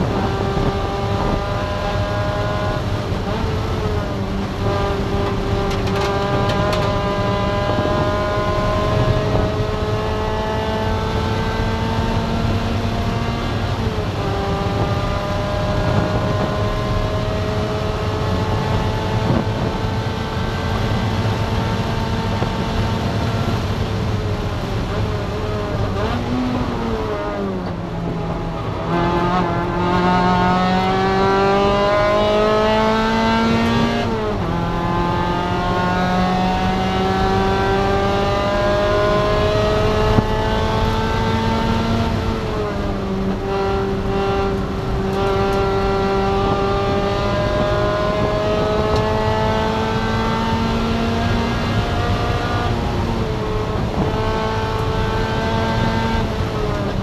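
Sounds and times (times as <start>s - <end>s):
race car engine revving hard: 0.0s - 57.0s.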